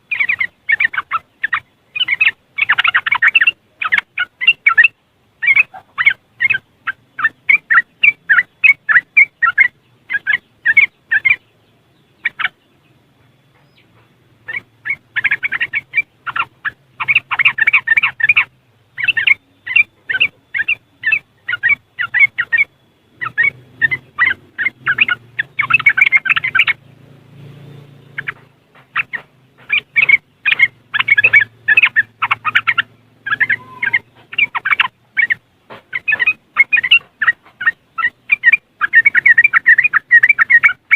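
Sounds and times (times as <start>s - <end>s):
bird chattering calls: 0.0s - 40.9s.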